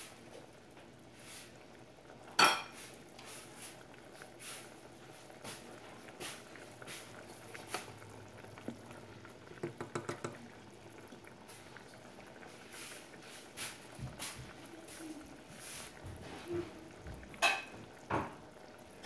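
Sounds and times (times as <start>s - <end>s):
pot boiling and bubbling: 0.0s - 19.0s.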